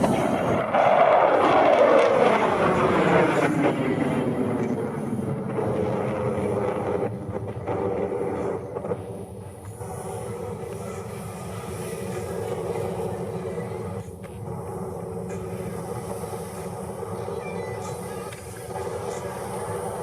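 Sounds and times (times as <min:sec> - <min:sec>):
jet engine whine passing: 0:00.0 - 0:20.0.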